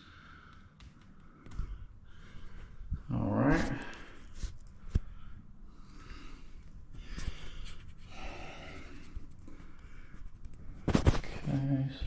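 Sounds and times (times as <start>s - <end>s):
soft breathing: 0.0s - 11.6s.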